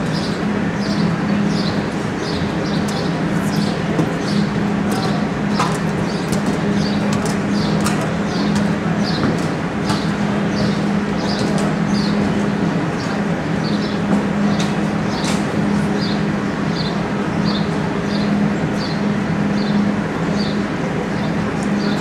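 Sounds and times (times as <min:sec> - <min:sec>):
low hum of indoor arena: 0:00.0 - 0:22.0.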